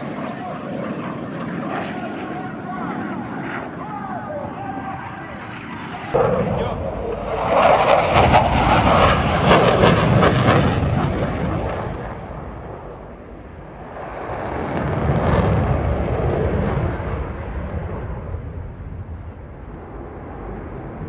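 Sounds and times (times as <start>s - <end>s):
fighter jet passing low: 0.0s - 21.0s.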